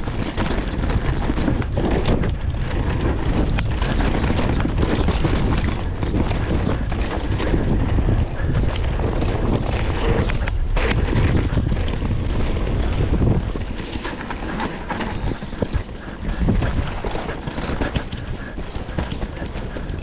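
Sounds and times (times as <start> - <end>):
mountain bike rattling over rocks: 0.0 - 20.0
wind over microphone: 0.0 - 20.0.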